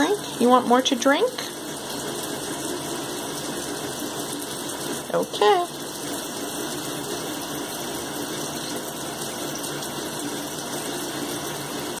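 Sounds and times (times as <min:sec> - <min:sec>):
faucet water pouring into basin: 0:00.0 - 0:12.0.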